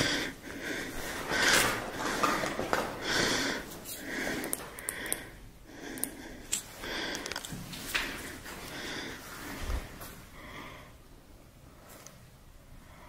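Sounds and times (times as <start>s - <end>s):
man breathing heavily: 0.0s - 11.1s.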